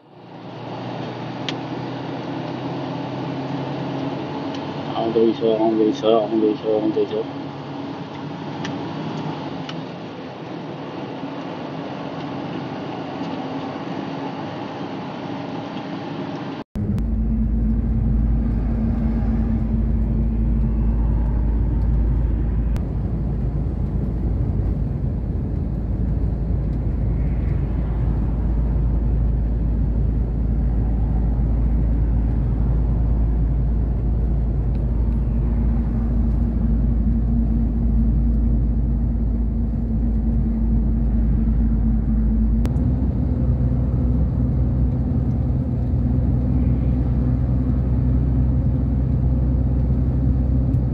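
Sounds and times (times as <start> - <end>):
road rumble: 0.0 - 50.9
truck engine drone: 0.0 - 50.9.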